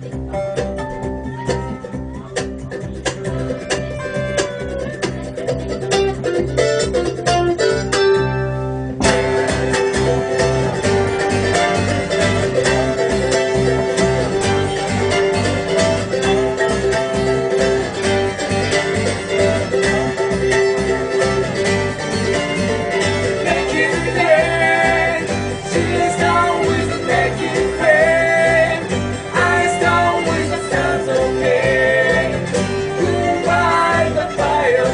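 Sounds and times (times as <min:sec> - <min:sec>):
acoustic bluegrass band playing: 0:00.0 - 0:34.9.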